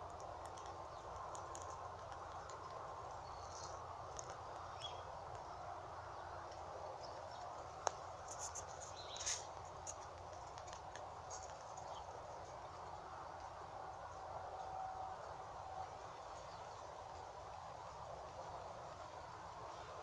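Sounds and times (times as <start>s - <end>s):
low background hiss and rumble: 0.0s - 20.0s.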